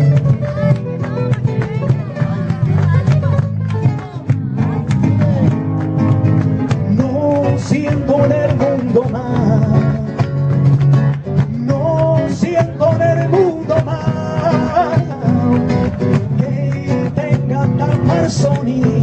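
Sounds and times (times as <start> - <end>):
rapidly strummed guitar: 0.0 - 19.0.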